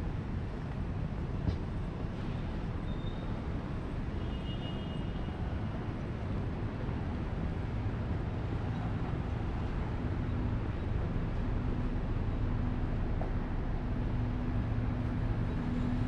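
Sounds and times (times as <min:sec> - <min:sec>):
city street traffic rumble: 0:00.0 - 0:16.0.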